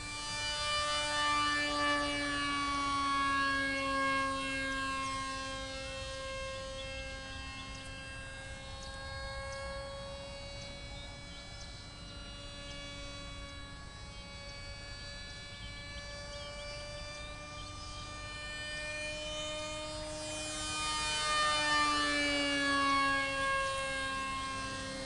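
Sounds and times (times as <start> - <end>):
kite hummer droning in wind: 0.0 - 25.0.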